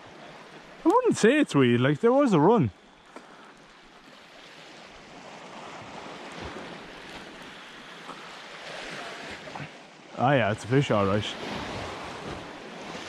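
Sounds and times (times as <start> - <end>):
waves breaking over rocks: 0.0 - 13.0.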